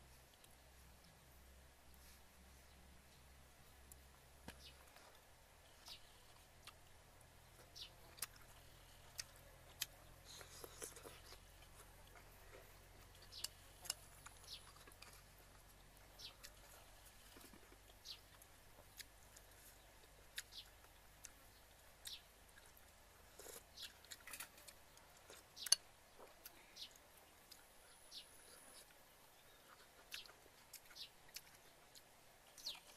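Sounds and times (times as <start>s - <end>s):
chewing and lip smacks: 3.9s - 27.8s, 28.7s - 32.9s.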